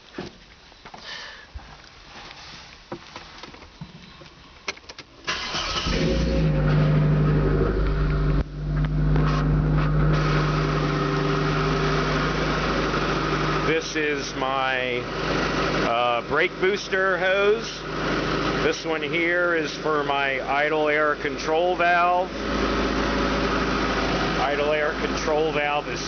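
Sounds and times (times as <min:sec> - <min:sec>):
car engine starting and idling: 0:04.8 - 0:26.0.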